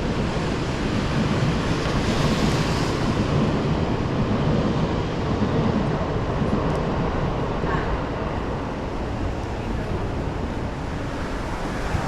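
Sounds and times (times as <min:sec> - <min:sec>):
wind and rain: 0:00.0 - 0:12.0
wind buffeting microphone: 0:00.0 - 0:12.0.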